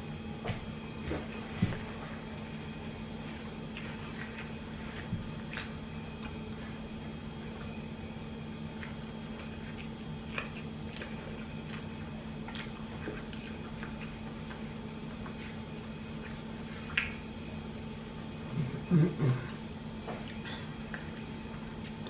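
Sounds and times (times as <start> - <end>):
steady low hum: 0.0 - 22.0
person chewing crunchy food: 1.0 - 8.0, 8.6 - 18.9, 19.6 - 22.0.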